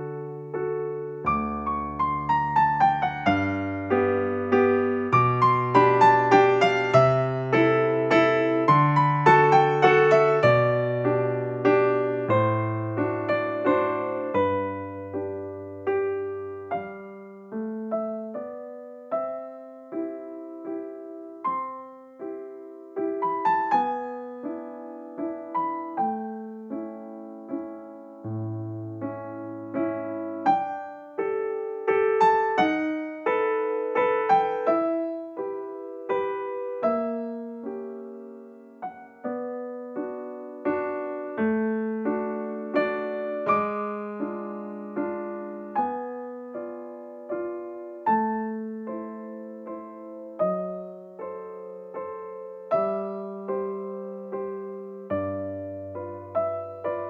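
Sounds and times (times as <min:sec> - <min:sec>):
gentle piano melody: 0:00.0 - 0:57.0.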